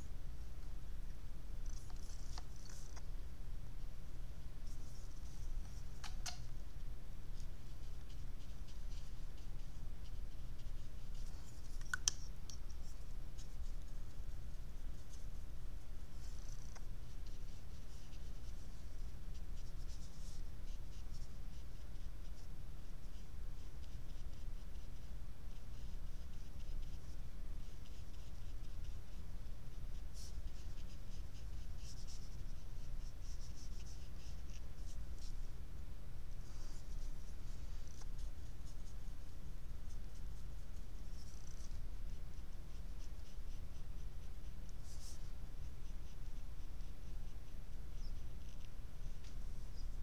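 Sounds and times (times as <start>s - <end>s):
steady low hum: 0.0s - 50.0s
brush scratching on paper: 4.6s - 35.6s, 36.4s - 50.0s.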